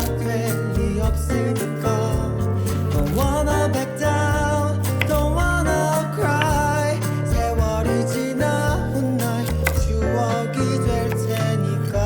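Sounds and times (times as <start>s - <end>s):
pop song with bass line: 0.0s - 12.0s.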